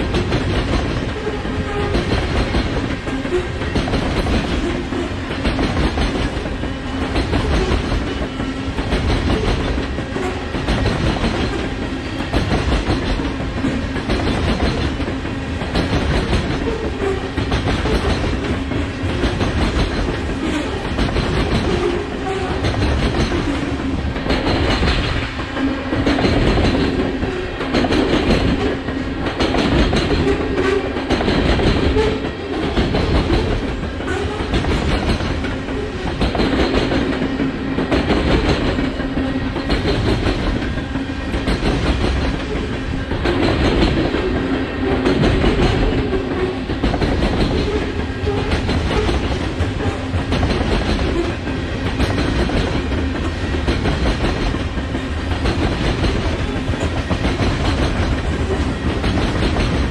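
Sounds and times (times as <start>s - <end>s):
train wheels clattering over rails: 0.0s - 59.9s.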